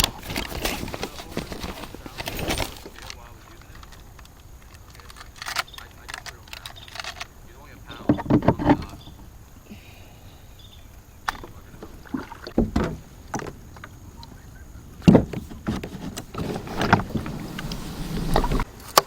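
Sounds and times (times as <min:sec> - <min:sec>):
paddle and gear knocking on hull: 0:00.0 - 0:18.7.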